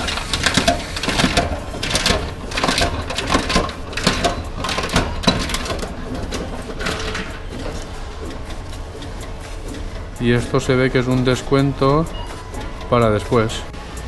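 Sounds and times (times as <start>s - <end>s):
mechanical clicks and rattles: 0.0s - 14.0s
receipt printing: 0.0s - 14.0s
vending machine humming: 0.0s - 14.0s.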